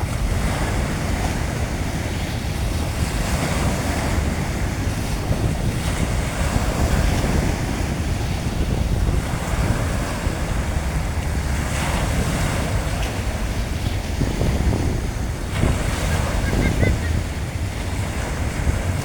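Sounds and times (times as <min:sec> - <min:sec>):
sea waves washing onto beach: 0:00.0 - 0:19.0
wind rumbling on microphone: 0:00.0 - 0:19.0.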